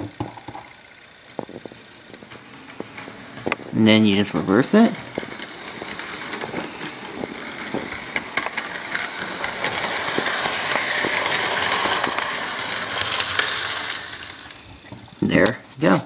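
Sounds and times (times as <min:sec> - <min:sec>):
model train motor whirring: 0:00.0 - 0:15.6.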